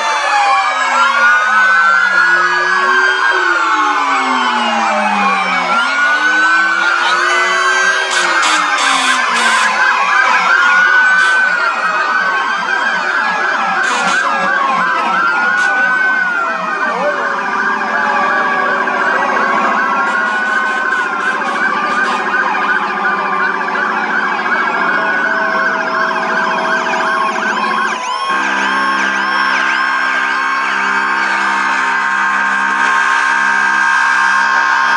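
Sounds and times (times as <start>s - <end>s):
ambulance sirens wailing: 0.0s - 34.9s.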